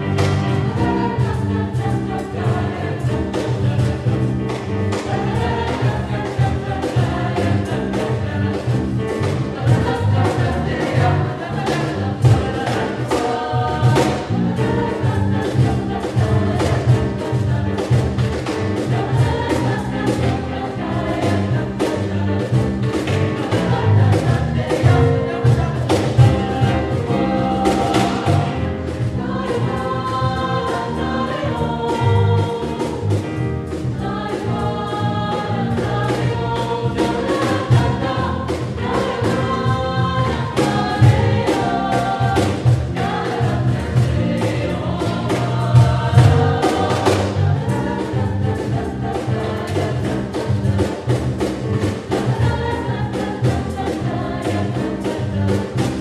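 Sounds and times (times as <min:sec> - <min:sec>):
choral singing over instruments: 0:00.0 - 0:56.0.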